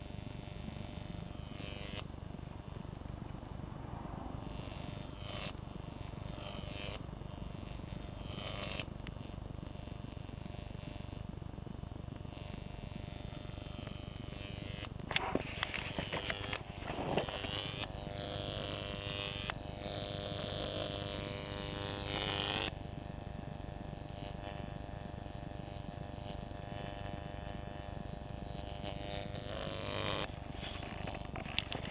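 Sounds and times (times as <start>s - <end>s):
electric arc buzzing: 0.0s - 31.9s
sharp electric crackles: 0.0s - 31.9s.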